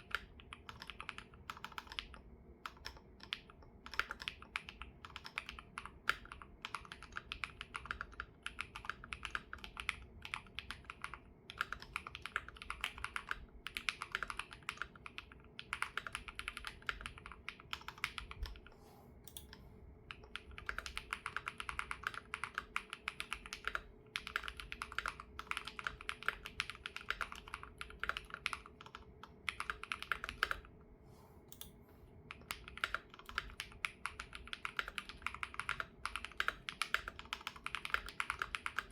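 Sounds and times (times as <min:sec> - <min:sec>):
mechanical keyboard typing: 0:00.0 - 0:18.7, 0:19.3 - 0:30.7, 0:32.3 - 0:38.9.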